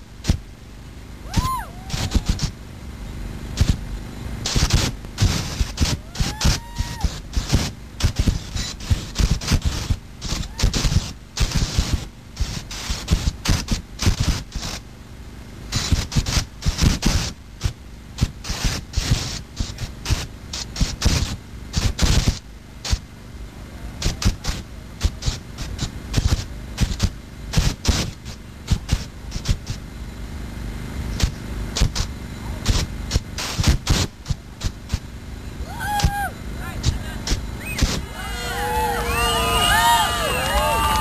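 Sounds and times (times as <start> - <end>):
propane fireball blasts: 0.0 - 14.9, 15.6 - 41.0.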